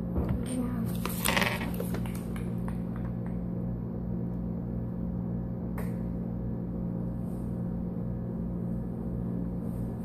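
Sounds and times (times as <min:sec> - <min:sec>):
low hum with fixed tones: 0:00.0 - 0:10.0.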